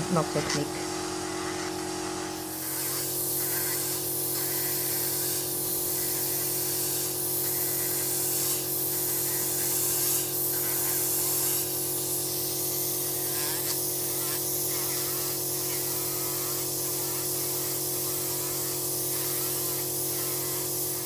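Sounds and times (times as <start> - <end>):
pedicure drill motor humming: 0.0 - 21.0.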